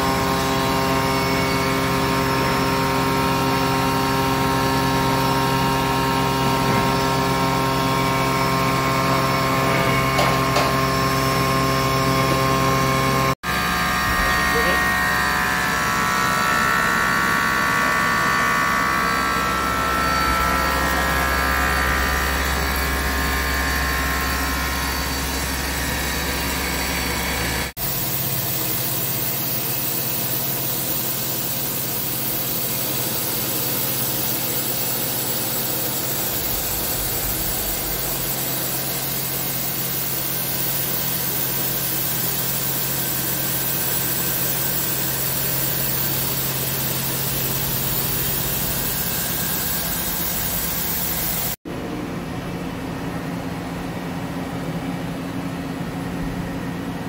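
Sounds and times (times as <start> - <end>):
lathe machine hum: 0.0 - 51.9
high machine whine: 0.0 - 57.0.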